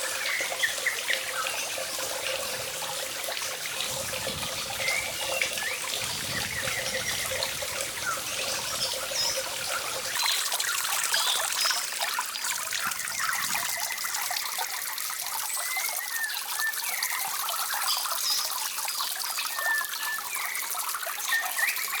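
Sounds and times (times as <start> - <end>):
water trickling: 0.0 - 22.0.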